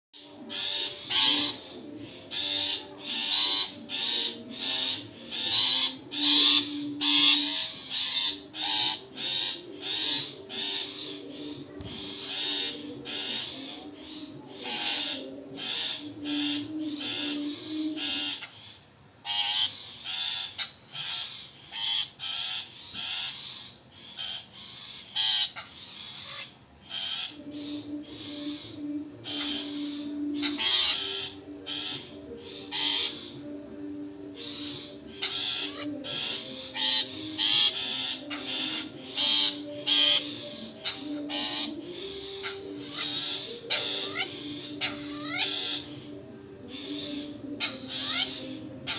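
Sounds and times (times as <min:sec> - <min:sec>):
birds giving harsh rasping calls: 0:00.2 - 0:48.9
soft background music: 0:00.2 - 0:48.9.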